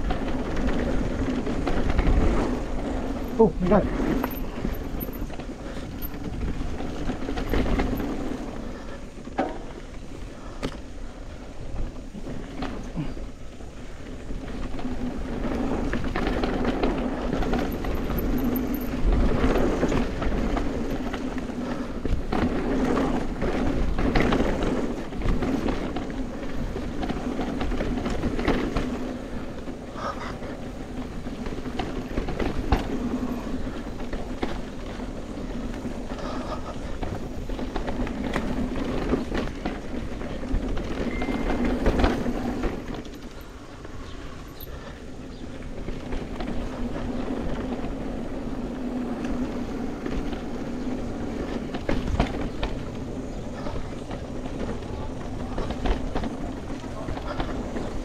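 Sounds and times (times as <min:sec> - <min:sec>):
bicycle rattles and knocks: 0:00.0 - 0:58.0
bicycle tyre and road noise: 0:00.0 - 0:58.0.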